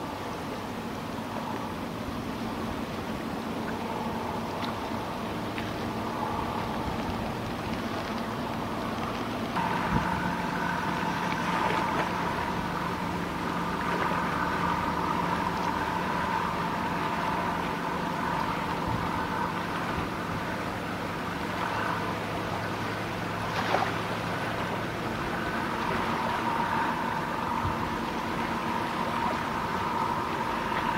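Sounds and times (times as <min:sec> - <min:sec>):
boat engine running: 0:00.0 - 0:30.9.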